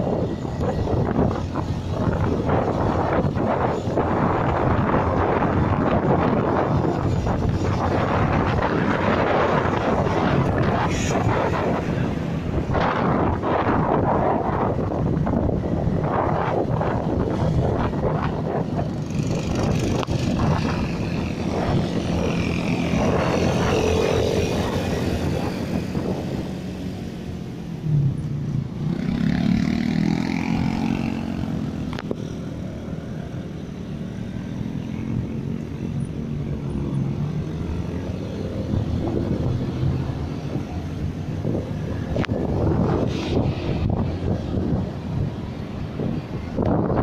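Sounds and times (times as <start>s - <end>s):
road noise: 0.0s - 47.0s
vehicle engine: 0.0s - 47.0s
wind buffeting microphone: 0.0s - 47.0s.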